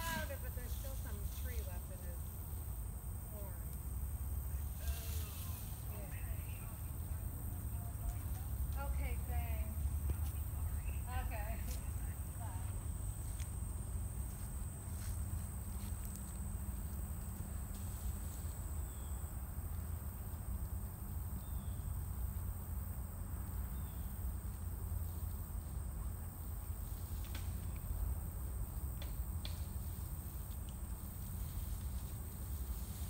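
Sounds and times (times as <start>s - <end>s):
high insect trill: 0.0s - 33.0s.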